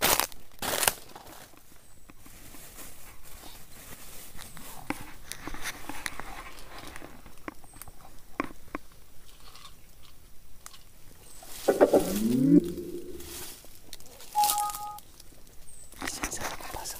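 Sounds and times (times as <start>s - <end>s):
light crackling and rustling: 0.1s - 12.2s, 15.1s - 16.9s.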